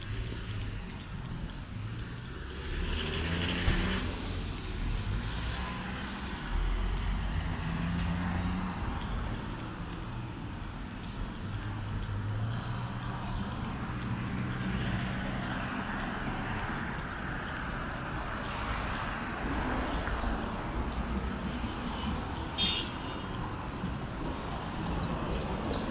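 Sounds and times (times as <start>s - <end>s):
road traffic rumble: 0.0s - 25.9s.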